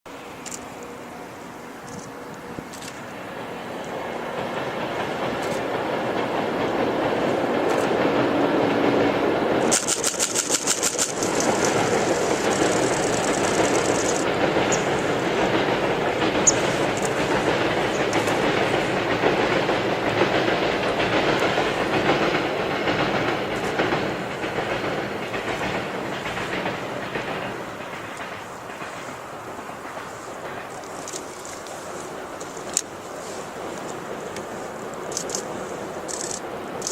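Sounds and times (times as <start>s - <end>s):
freight train rolling rumble: 0.1s - 36.9s
train wheels clacking over rail joints: 1.8s - 36.9s.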